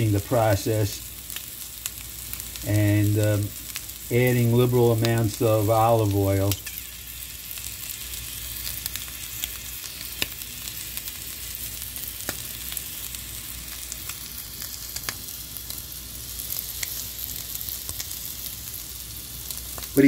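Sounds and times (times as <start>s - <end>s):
shrimp sizzling in oil: 0.0s - 20.0s.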